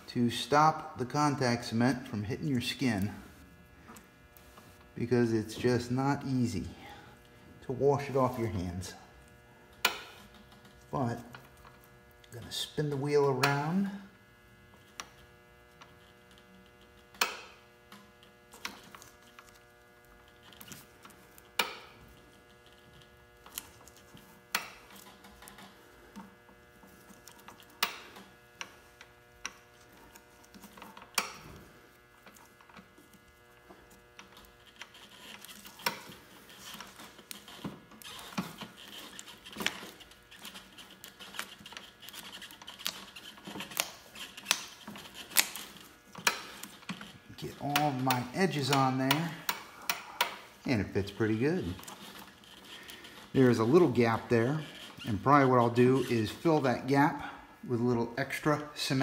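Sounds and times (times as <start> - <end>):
mains hum: 0.0 - 59.0.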